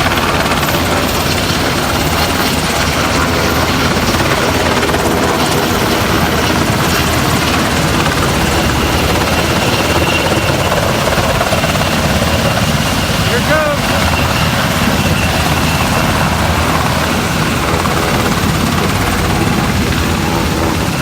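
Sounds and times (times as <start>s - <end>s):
helicopter rotor flutter: 0.0s - 21.0s.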